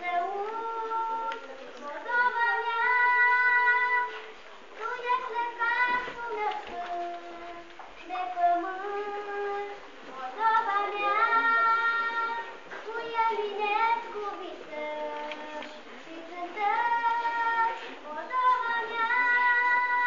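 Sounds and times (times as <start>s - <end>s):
children singing slow melody: 0.0s - 20.0s.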